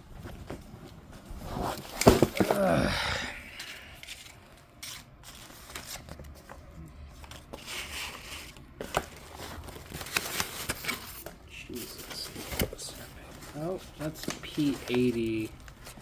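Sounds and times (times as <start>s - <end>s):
rustling and scraping in a bin: 0.1s - 2.8s, 3.5s - 16.0s.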